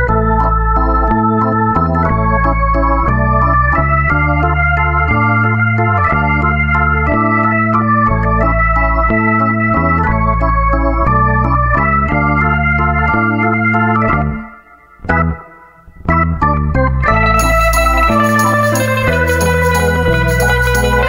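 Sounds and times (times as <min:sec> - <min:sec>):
keyboard chords with bass line: 0:00.0 - 0:21.0.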